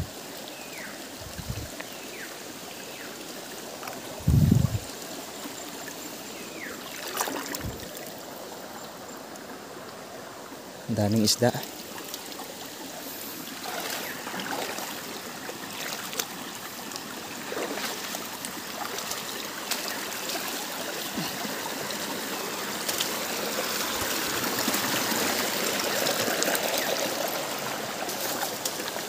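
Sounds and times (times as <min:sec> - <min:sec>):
stream water trickling: 0:00.0 - 0:29.0.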